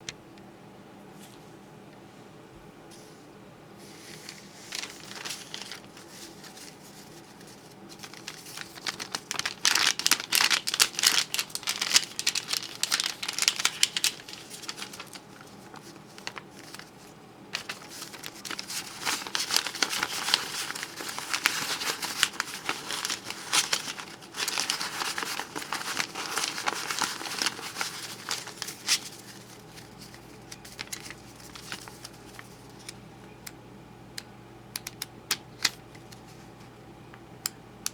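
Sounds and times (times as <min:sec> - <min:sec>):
paper money crinkling: 0:03.8 - 0:33.1, 0:34.8 - 0:36.6.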